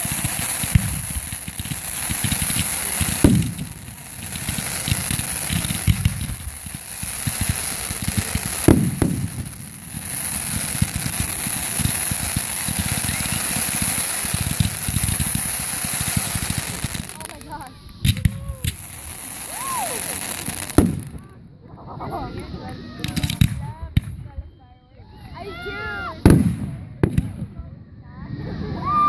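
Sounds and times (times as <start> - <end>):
firework booms: 0.0 - 24.5, 25.8 - 29.0
low crackling rumble: 0.0 - 24.6, 26.2 - 29.0.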